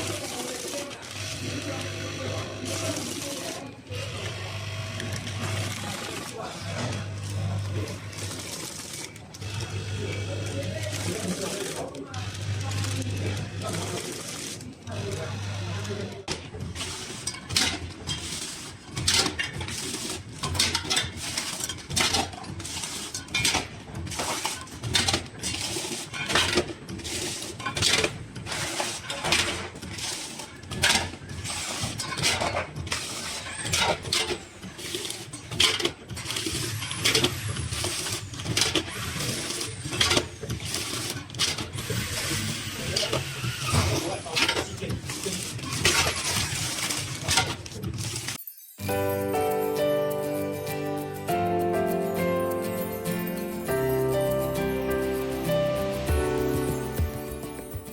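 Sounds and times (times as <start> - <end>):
conveyor clicks and clacks: 0.0 - 48.4.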